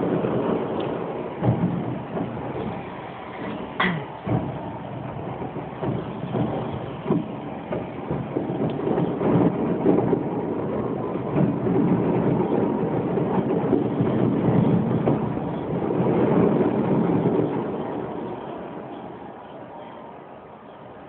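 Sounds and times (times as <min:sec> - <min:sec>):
distant fireworks bursts: 0:00.0 - 0:21.0.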